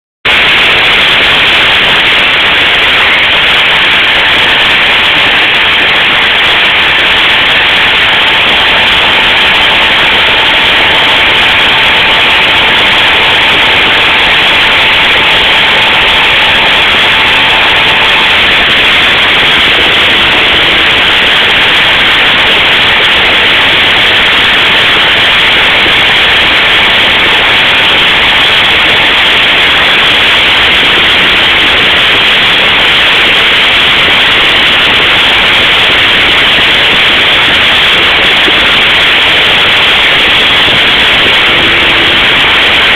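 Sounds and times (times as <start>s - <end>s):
milling machine spindle whine: 0.3s - 42.9s.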